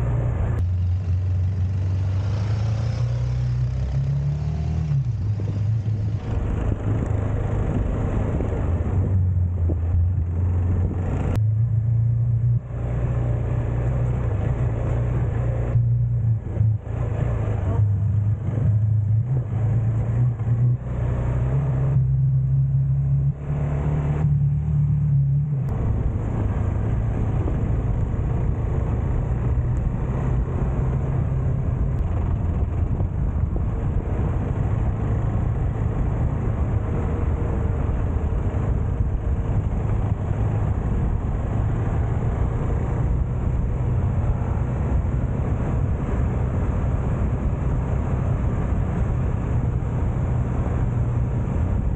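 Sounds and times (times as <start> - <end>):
wind noise: 0.0 - 51.9.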